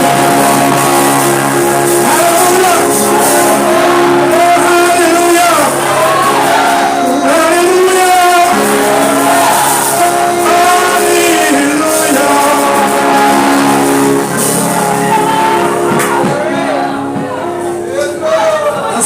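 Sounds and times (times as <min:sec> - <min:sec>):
keyboard or organ chords: 0:00.0 - 0:19.0
person singing: 0:00.0 - 0:19.0.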